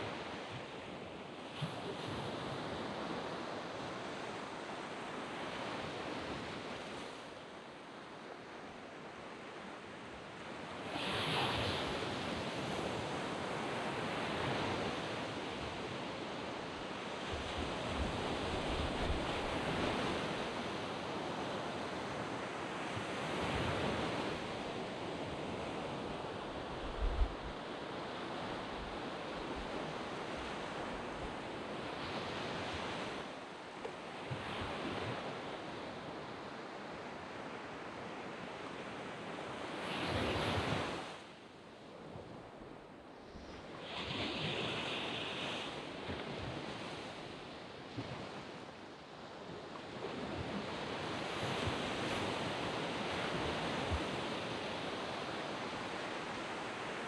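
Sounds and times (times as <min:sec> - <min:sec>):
waves breaking on beach: 0:00.0 - 0:42.2, 0:43.5 - 0:57.0.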